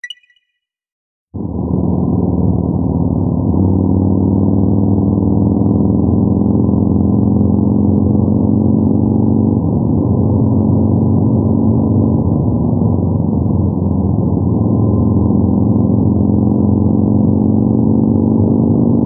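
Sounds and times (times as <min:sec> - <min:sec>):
motorcycle engine cruising: 0:01.6 - 0:19.0.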